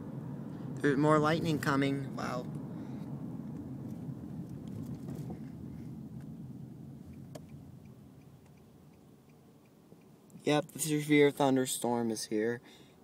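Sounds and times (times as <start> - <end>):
low rumble inside a car: 0.0 - 13.0.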